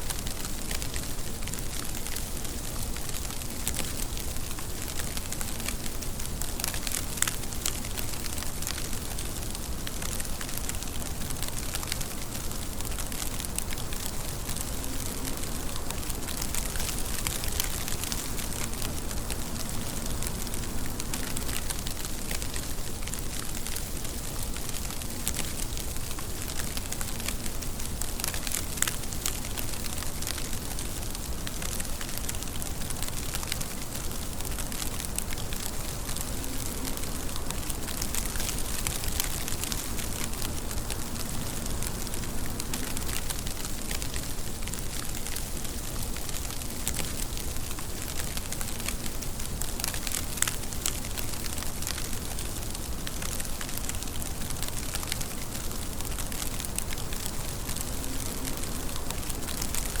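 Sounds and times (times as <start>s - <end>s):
raindrops ticking close by: 0.0s - 60.0s
steady rain falling: 0.0s - 60.0s.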